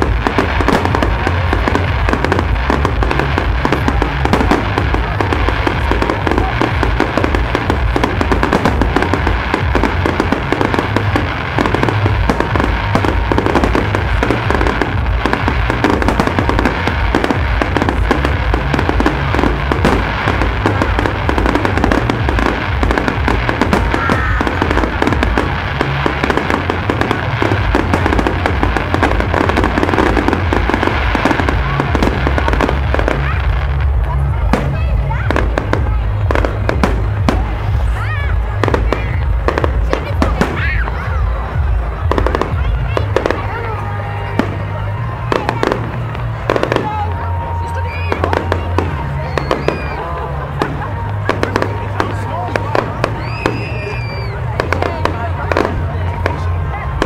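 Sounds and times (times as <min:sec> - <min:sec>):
deep rumble: 0:00.0 - 0:57.0
fireworks bangs and crackle: 0:00.0 - 0:57.0.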